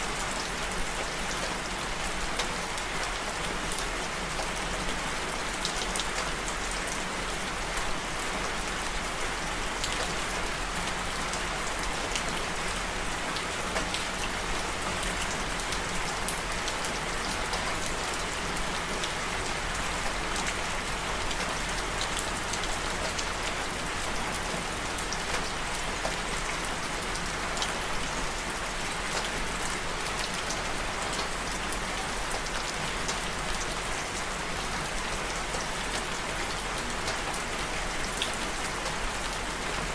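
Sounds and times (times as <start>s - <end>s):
raindrops ticking on a surface: 0.0s - 39.9s
steady rainfall: 0.0s - 39.9s.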